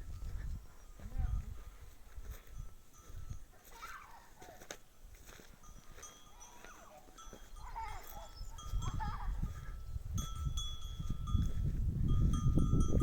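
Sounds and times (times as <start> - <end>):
sheep bells ringing: 0.0 - 13.0.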